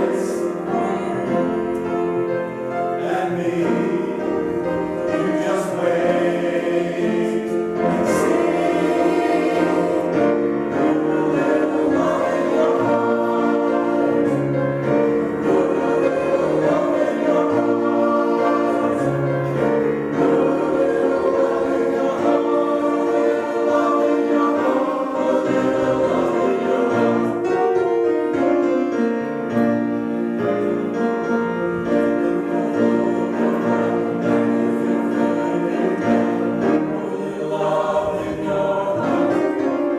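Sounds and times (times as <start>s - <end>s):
choir singing: 0.0s - 39.9s
instrumental accompaniment: 0.0s - 39.9s.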